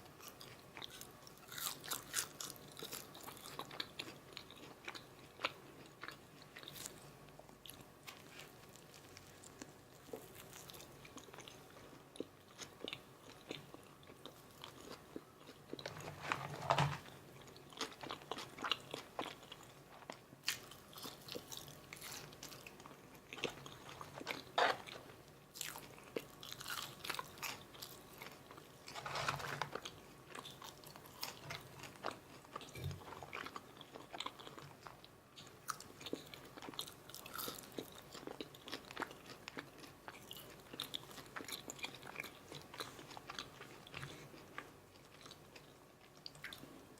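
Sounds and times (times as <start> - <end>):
chewing and crunching food: 0.0 - 46.9.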